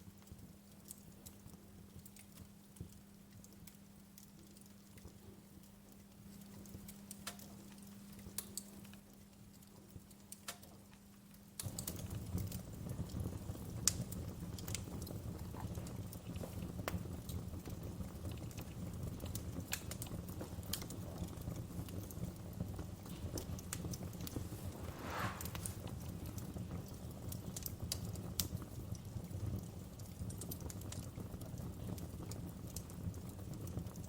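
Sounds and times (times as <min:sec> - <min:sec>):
faint steady hum: 0:00.0 - 0:30.6
wood fire crackling: 0:00.0 - 0:34.0.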